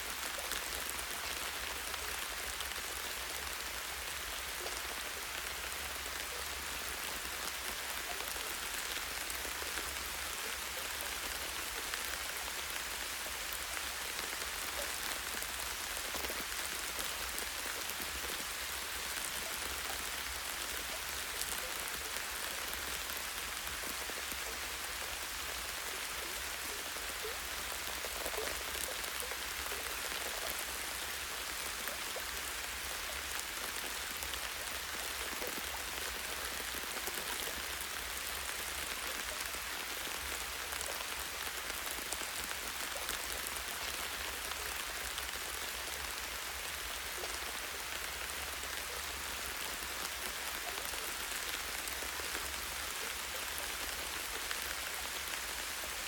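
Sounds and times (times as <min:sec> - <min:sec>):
rain patter on leaves: 0:00.0 - 0:56.0.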